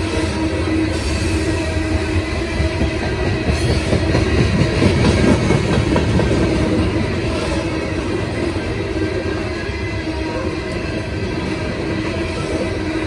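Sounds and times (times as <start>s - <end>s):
train cars rumbling: 0.0s - 13.0s.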